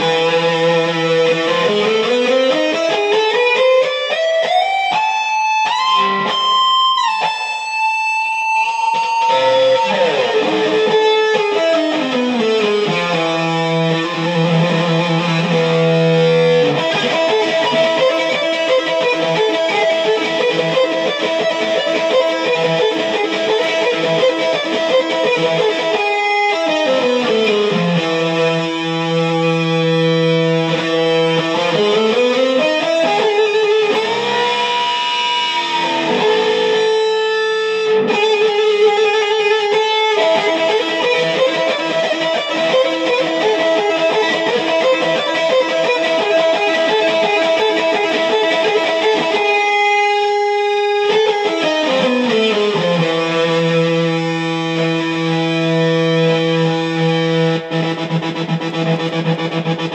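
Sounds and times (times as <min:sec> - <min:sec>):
electric guitar slow riff: 0:00.0 - 0:59.9.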